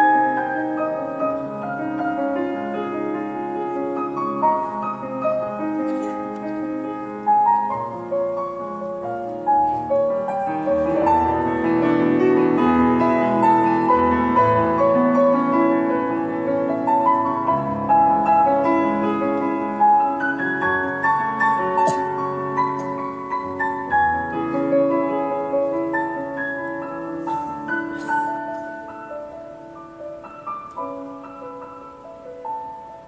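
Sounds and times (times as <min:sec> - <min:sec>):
solo piano melody: 0:00.0 - 0:33.0.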